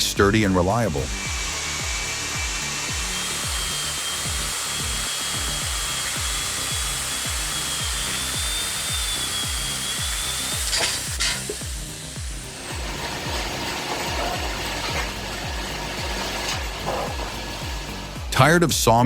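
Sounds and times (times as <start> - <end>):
power saw cutting wood: 0.0 - 18.7
background music with steady beat: 0.0 - 19.0.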